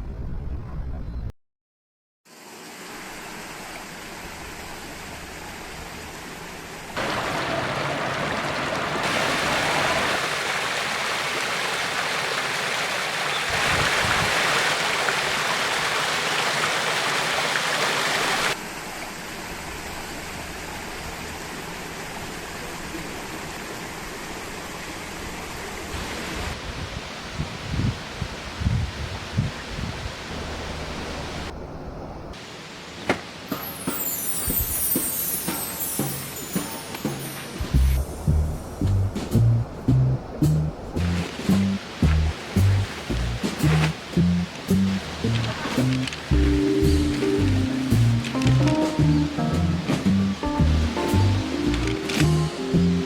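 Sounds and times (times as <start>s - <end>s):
stream water rushing: 2.3s - 27.4s, 32.4s - 53.0s.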